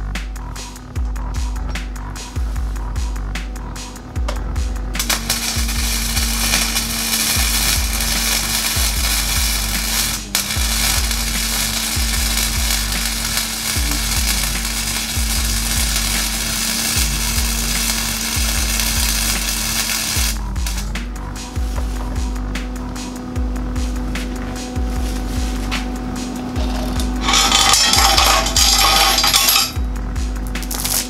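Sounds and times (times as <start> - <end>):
arc welding crackling and sizzling: 0.0 - 31.0
low hum: 0.0 - 31.0.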